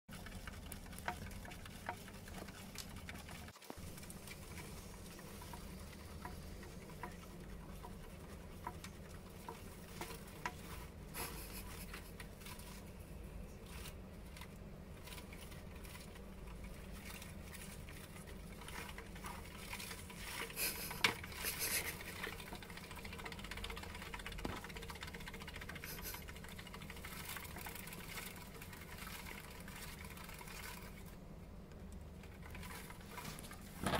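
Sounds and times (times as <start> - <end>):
hamster feet on plastic wheel: 0.1 - 33.9.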